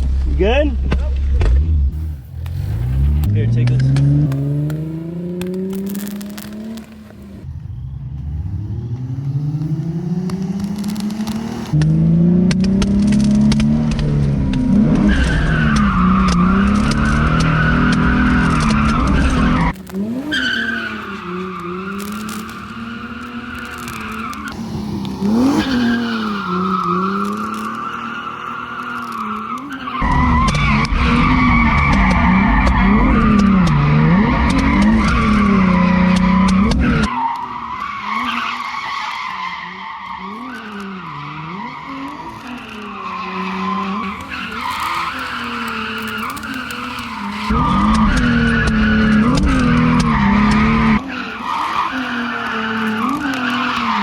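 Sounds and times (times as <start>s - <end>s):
car engine revving: 0.0s - 39.5s, 40.2s - 54.0s
tires squealing: 0.6s - 54.0s.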